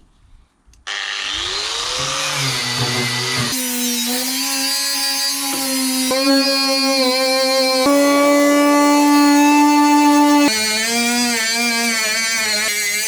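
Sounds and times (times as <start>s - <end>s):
wire brush grinder on steel: 0.9s - 13.0s.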